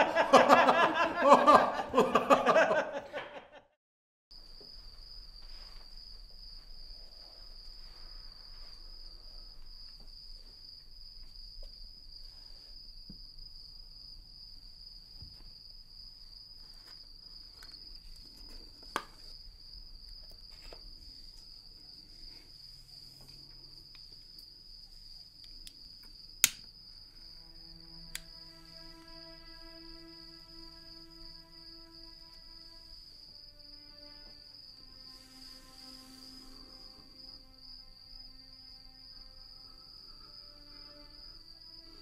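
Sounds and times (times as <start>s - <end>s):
crickets trilling: 4.4s - 42.0s.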